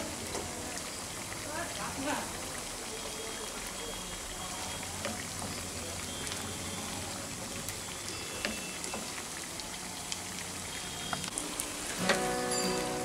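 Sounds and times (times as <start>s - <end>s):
food deep-frying in oil: 0.0s - 13.0s
oil popping and crackling: 0.0s - 13.0s.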